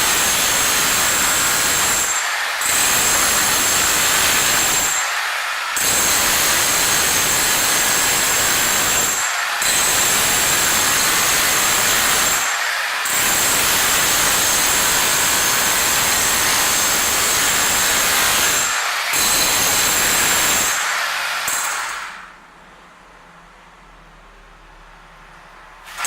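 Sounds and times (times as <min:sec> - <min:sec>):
rotary hammer chiseling concrete floor: 0:00.0 - 0:22.4.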